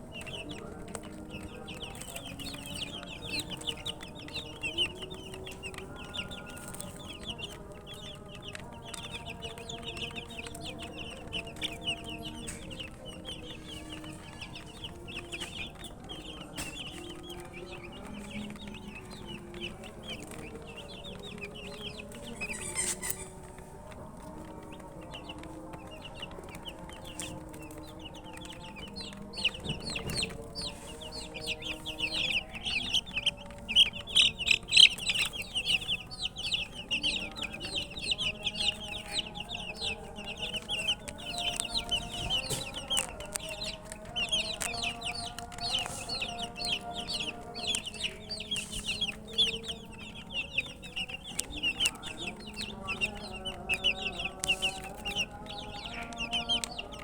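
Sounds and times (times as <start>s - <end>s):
baby chicks cheeping: 0.0s - 57.0s.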